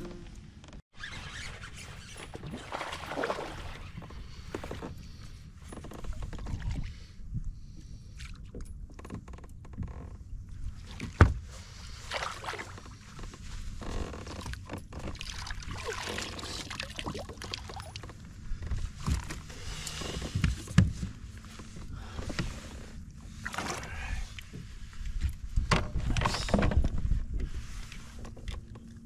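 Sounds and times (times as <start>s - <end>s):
water splashing and sloshing: 1.3s - 9.0s, 10.4s - 29.0s.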